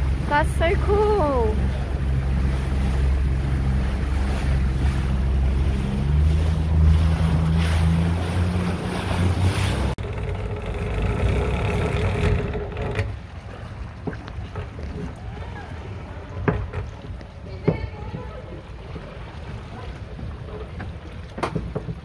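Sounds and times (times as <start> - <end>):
motorboat engine hum: 0.0 - 22.0
water noise: 0.0 - 22.0
wind: 0.0 - 22.0.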